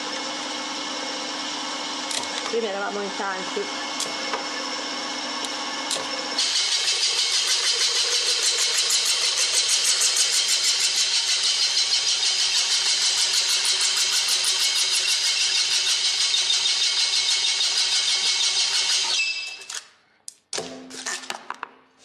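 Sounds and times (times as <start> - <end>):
scroll saw cutting: 0.0 - 19.9.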